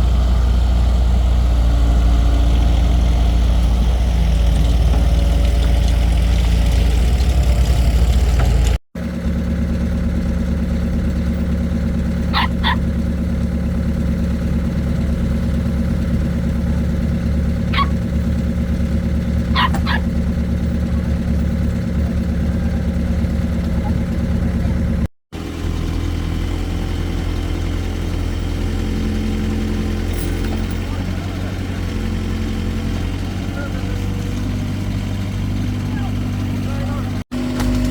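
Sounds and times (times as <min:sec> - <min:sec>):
excavator engine droning: 0:00.0 - 0:37.9.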